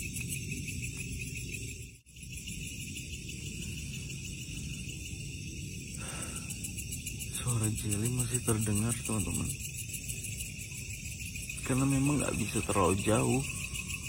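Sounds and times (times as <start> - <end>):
night insects chirping: 0.0 - 14.0.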